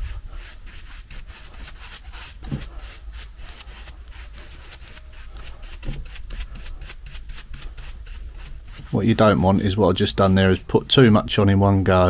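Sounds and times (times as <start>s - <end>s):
paintbrush scrubbing on wood: 0.0s - 12.0s.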